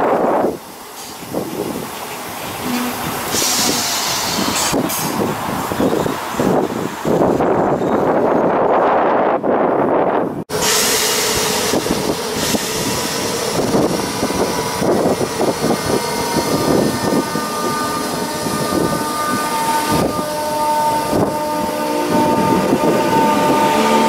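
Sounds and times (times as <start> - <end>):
train rolling noise: 0.0 - 24.0.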